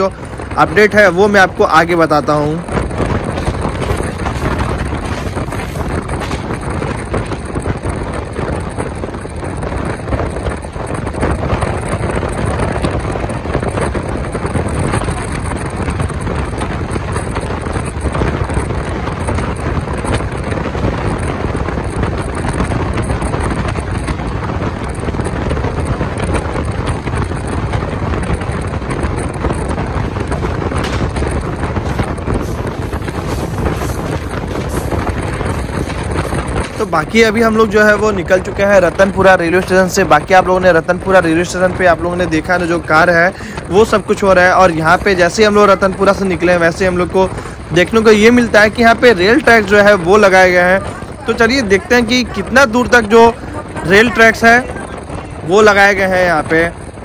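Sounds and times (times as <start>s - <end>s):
train running along track: 0.0s - 57.0s
wind buffeting microphone: 0.0s - 57.0s.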